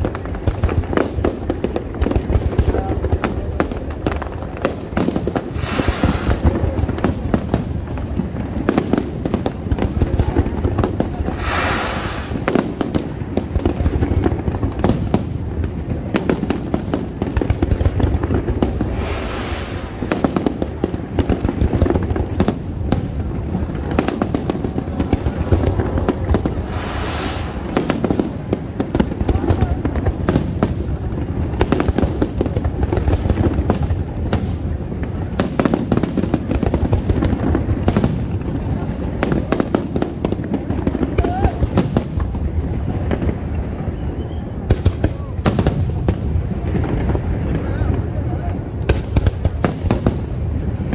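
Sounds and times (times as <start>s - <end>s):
fireworks bangs and booms: 0.0s - 50.9s
fireworks hissing: 0.0s - 50.9s.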